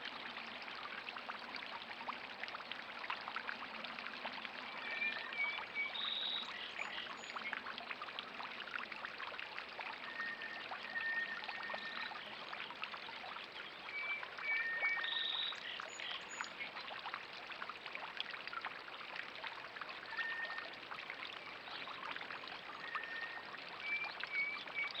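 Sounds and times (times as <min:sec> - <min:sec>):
water trickling into bird bath: 0:00.0 - 0:25.0.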